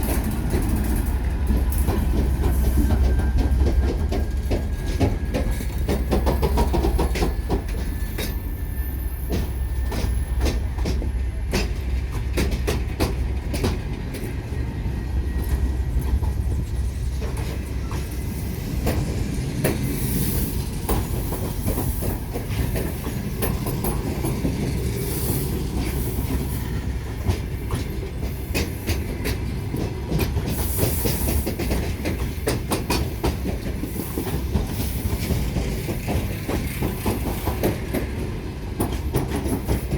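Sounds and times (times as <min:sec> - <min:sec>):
train wheel clicks on rail joints: 0:00.0 - 0:08.6, 0:09.2 - 0:14.5, 0:18.8 - 0:39.9
train rumbling along track: 0:00.0 - 0:39.9.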